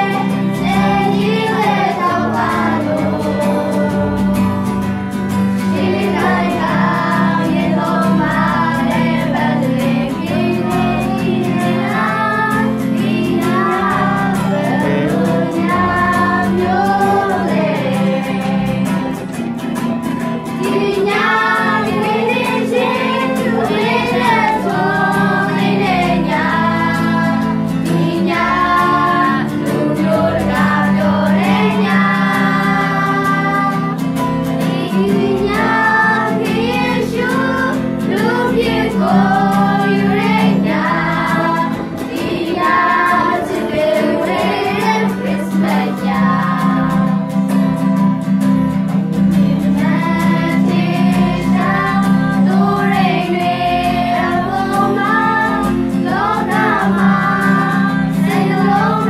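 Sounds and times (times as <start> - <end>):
girls singing together: 0.0 - 4.9, 5.6 - 19.4, 20.4 - 47.9, 49.0 - 59.0
strummed acoustic guitar: 0.0 - 59.0.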